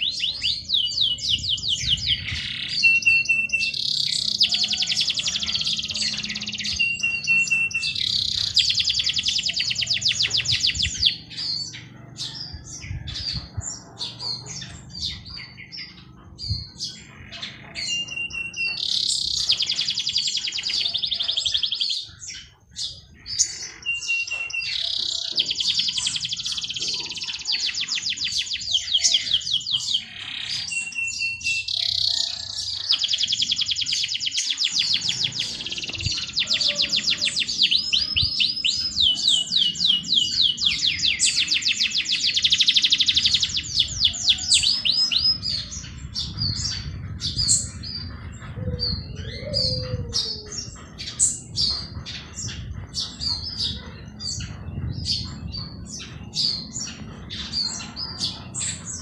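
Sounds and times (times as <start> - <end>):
high bird chirps: 0.0 - 59.0
songbird trilling: 0.0 - 59.0.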